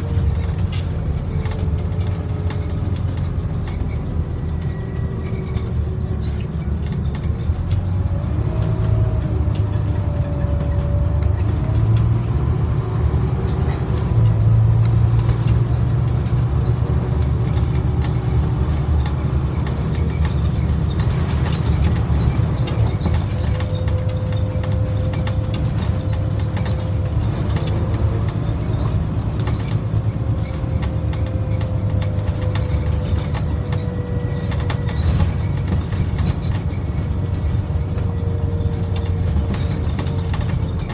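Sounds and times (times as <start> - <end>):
bus engine and road drone: 0.0 - 40.9.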